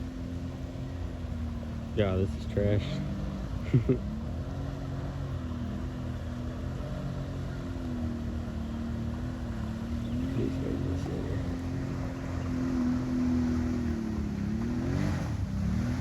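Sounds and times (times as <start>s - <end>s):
atv engine running at low revs: 0.0s - 16.0s.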